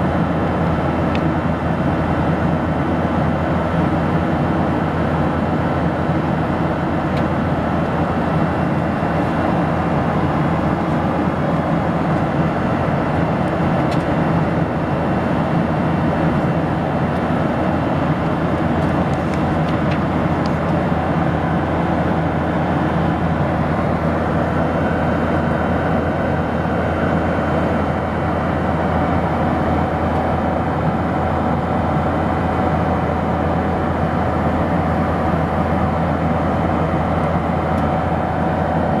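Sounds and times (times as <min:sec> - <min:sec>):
airliner cabin roar: 0:00.0 - 0:39.0.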